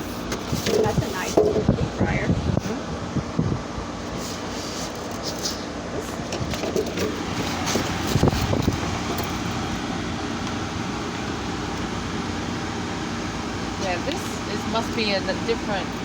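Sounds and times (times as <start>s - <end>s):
dehumidifier fan rush: 0.0s - 16.0s
low compressor hum: 0.0s - 16.0s.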